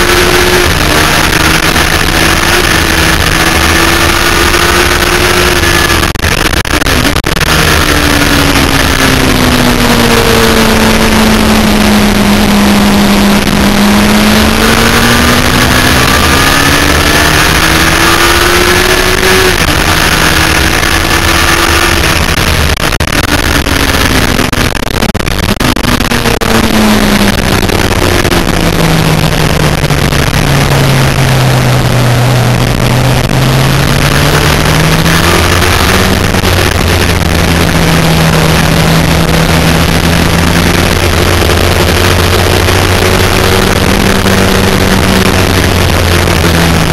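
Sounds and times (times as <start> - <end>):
motorcycle engine racing: 0.0 - 46.9.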